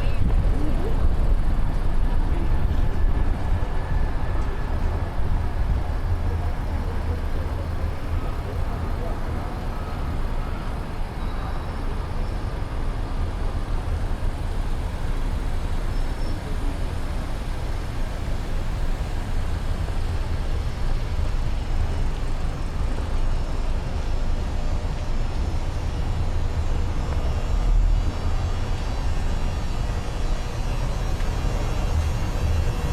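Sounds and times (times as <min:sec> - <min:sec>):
traffic rumble: 0:00.0 - 0:32.9.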